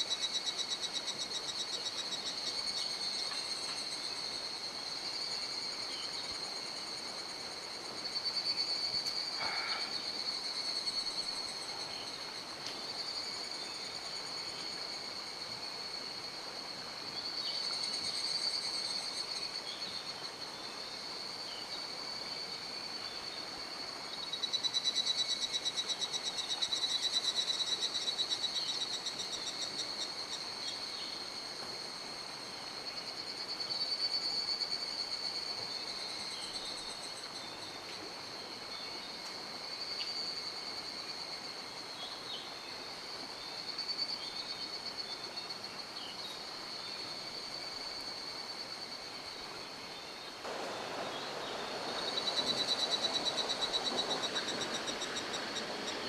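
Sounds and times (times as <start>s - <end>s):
insects trilling: 0.0s - 56.0s
mountain stream hiss: 0.0s - 56.0s.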